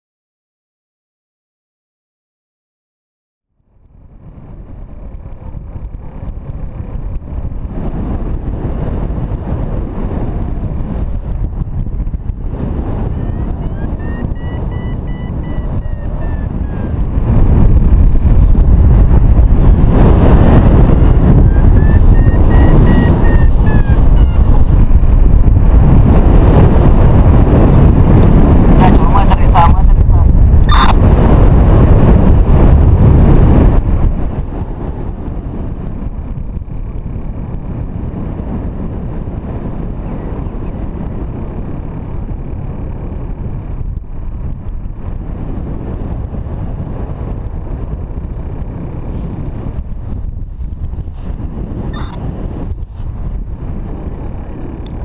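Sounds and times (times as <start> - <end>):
wind rushing over microphone: 3.6 - 55.0.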